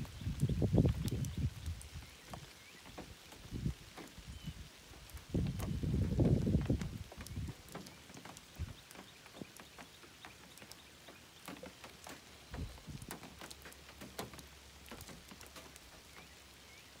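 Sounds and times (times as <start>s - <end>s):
raindrops pattering: 0.0s - 17.0s.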